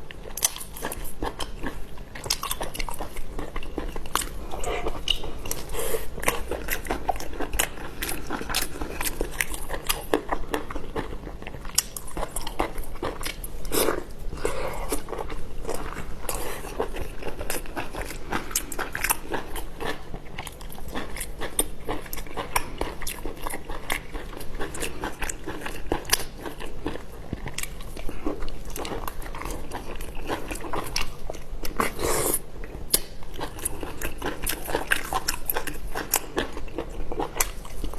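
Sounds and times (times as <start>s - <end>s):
crunching and chewing: 0.0s - 37.9s.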